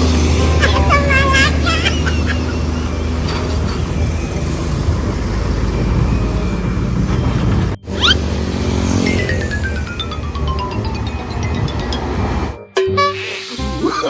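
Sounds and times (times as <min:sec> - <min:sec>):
heavy engine rumbling: 0:00.0 - 0:12.6
quick rising chirp: 0:00.6 - 0:12.6.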